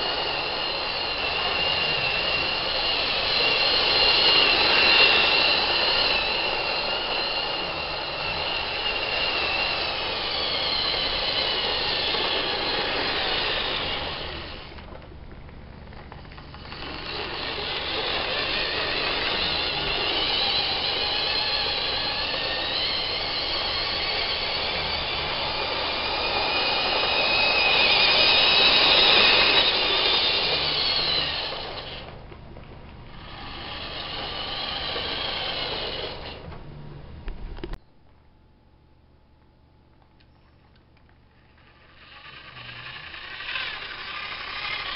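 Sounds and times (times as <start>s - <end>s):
model train motor whine: 0.0s - 15.1s, 15.9s - 32.2s, 33.0s - 37.8s, 41.0s - 44.9s.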